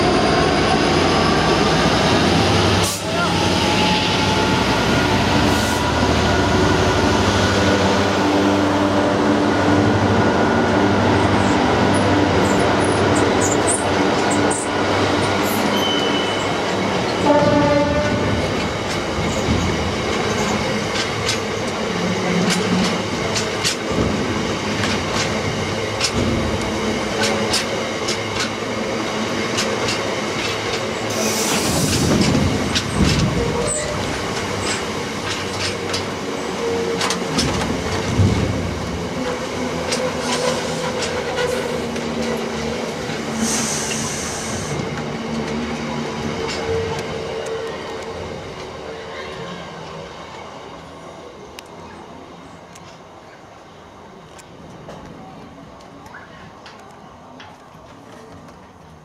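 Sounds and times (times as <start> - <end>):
diesel locomotive engine hum: 0.0 - 59.0.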